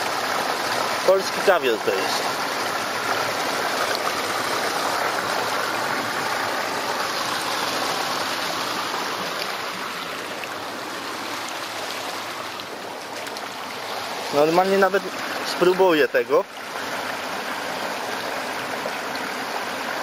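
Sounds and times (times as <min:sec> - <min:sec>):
shallow water splashing: 0:00.0 - 0:19.2.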